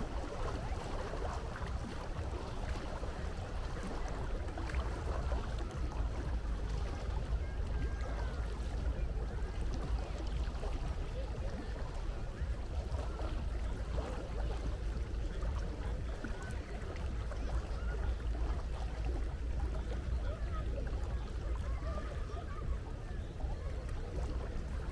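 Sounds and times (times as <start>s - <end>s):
sea water washing: 0.0s - 24.9s.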